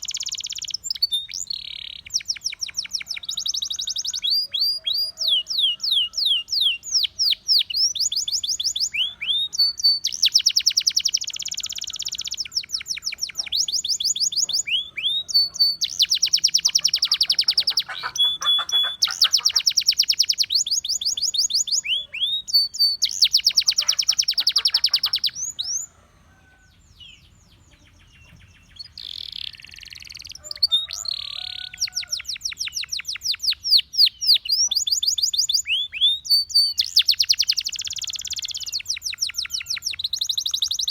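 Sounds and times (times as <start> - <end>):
canary singing rapid trills: 0.0 - 26.0, 27.1 - 40.9.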